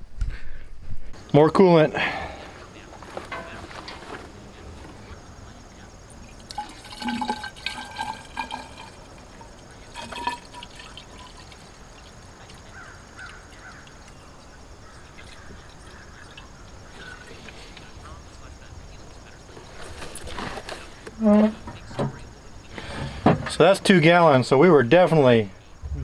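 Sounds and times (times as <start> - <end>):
coolant pouring from a jug: 1.2 - 24.5.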